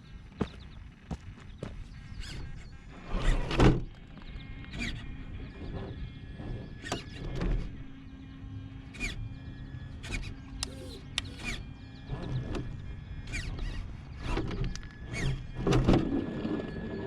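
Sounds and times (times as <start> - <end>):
electric motor whirring: 1.5 - 17.0.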